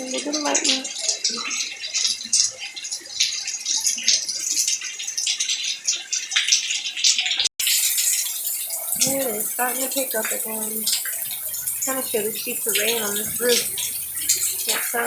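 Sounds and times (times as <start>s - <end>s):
heavy rain splashing on hard surfaces: 0.0s - 15.0s.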